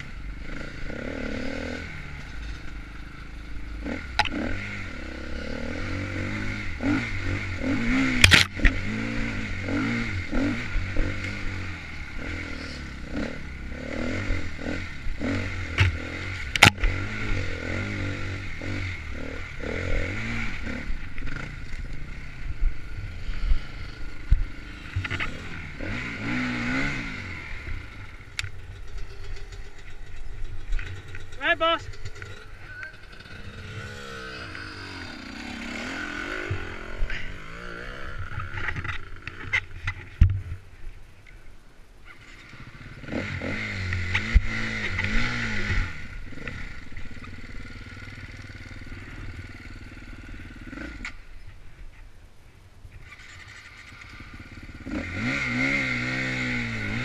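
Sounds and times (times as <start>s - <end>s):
dirt bike engine revving: 0.0s - 40.1s, 42.1s - 51.4s, 53.0s - 57.0s.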